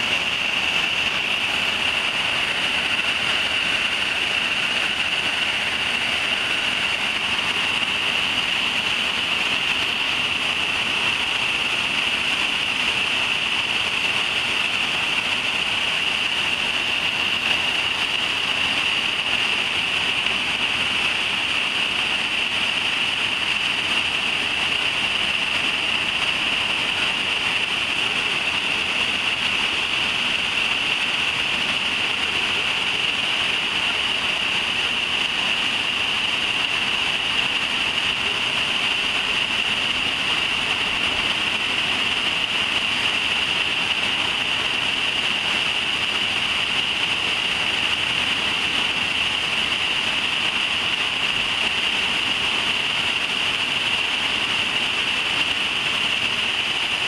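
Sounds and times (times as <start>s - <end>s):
waterfall pouring into pool: 0.0s - 57.0s.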